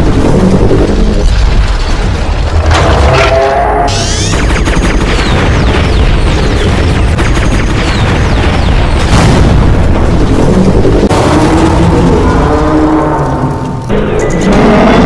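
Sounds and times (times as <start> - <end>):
booming fight soundtrack: 0.0 - 15.0.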